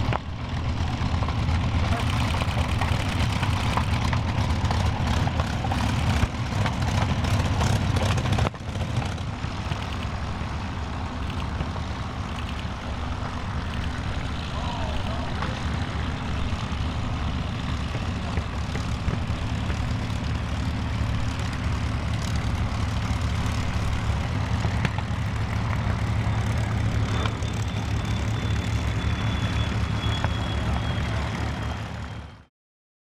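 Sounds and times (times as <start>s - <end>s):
propeller aircraft engines taxiing: 0.0s - 32.5s
propeller noise: 0.0s - 32.5s.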